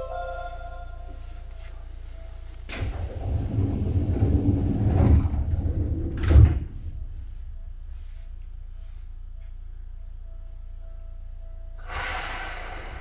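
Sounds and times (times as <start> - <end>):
low rumbling: 0.0 - 13.0.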